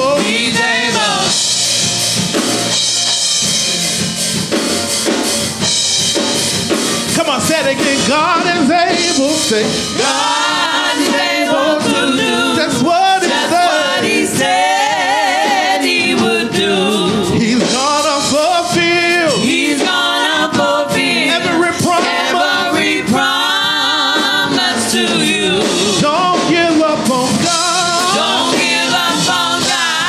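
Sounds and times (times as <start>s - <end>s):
gospel group singing: 0.0s - 3.7s, 4.4s - 30.0s.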